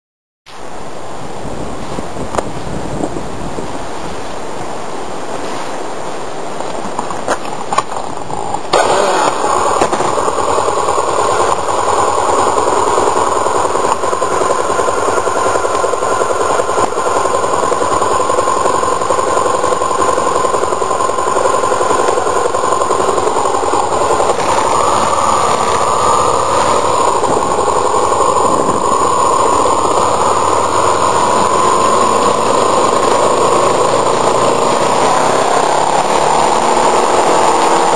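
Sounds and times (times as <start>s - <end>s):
wind and road noise: 0.5s - 37.9s
motorcycle engine running: 6.5s - 37.9s.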